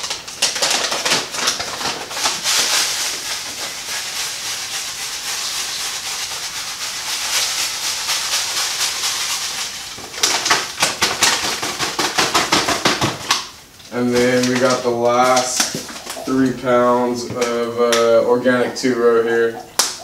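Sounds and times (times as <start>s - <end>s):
crackly rustling: 0.0s - 18.9s
grain pouring hiss: 1.2s - 12.3s, 13.9s - 18.9s.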